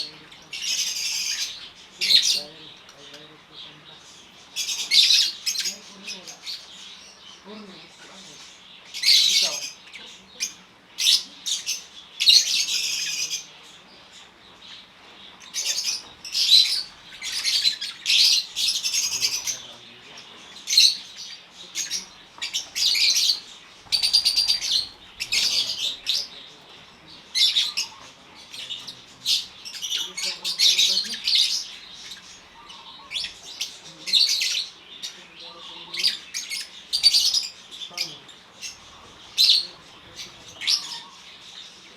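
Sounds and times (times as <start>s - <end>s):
birds chirping and squawking: 0.0s - 41.9s.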